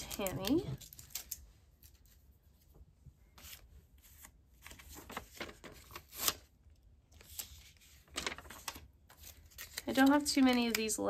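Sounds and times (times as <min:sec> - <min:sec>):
paper sticker sheet rustling: 0:00.0 - 0:02.7, 0:03.3 - 0:06.5, 0:07.1 - 0:11.0.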